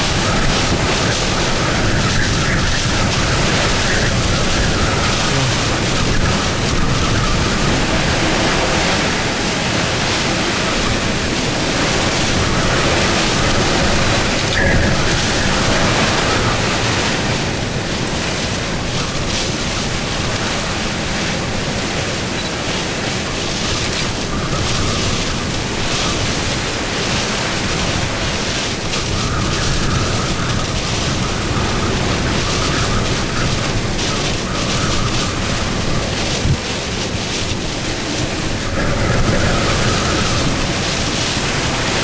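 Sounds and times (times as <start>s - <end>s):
hurricane wind rushing: 0.0s - 42.0s.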